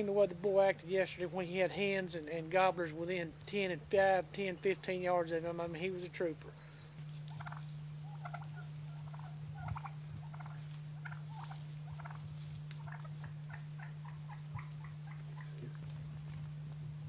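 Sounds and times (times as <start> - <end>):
wild turkeys calling: 0.0 - 16.6
steady low hum: 0.0 - 17.0.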